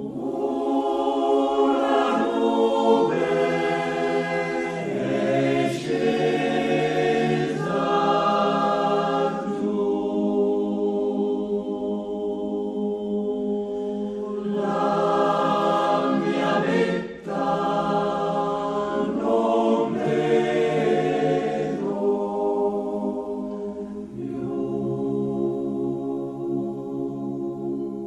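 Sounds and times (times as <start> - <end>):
male choir singing a cappella: 0.0 - 28.0.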